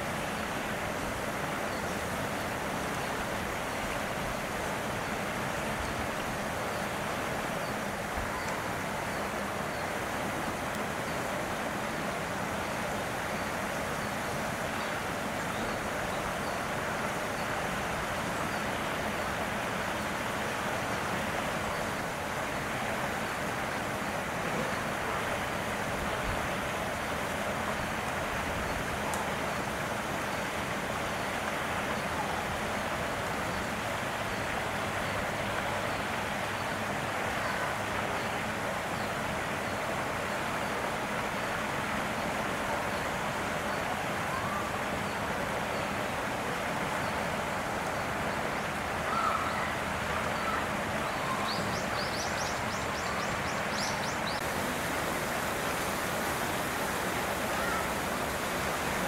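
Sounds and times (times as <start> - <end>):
steady outdoor hiss: 0.0 - 59.0.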